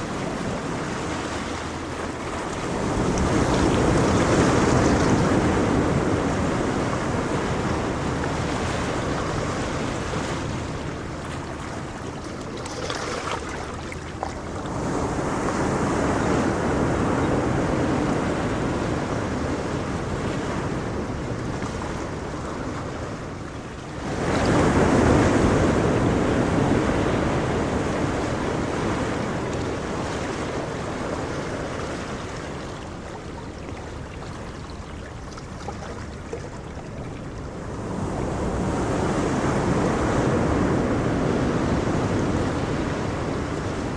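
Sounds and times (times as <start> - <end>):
ocean waves breaking: 0.0 - 43.9.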